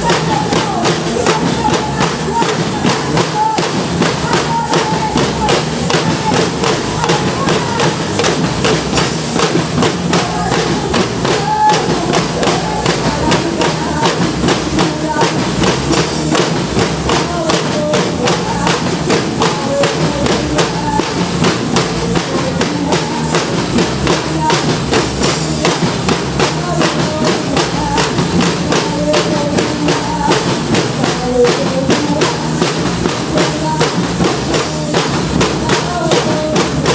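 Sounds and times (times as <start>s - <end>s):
drums playing quick beat: 0.0s - 36.9s.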